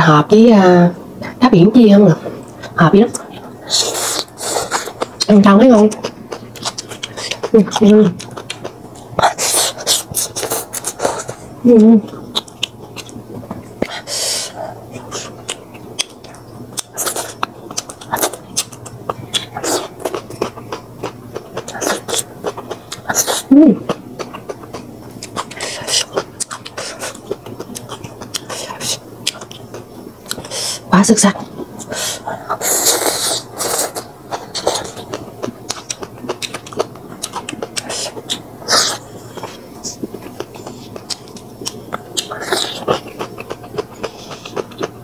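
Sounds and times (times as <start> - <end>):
person chewing crunchy food: 2.3 - 45.0.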